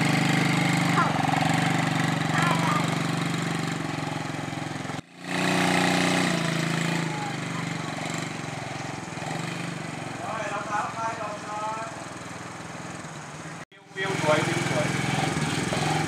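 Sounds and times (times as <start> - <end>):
small atv engine humming: 0.0 - 16.0.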